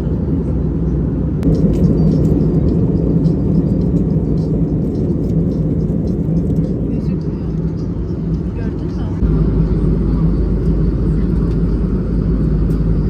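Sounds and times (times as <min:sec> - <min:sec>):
airliner engine and airflow rumble: 0:00.0 - 0:13.0.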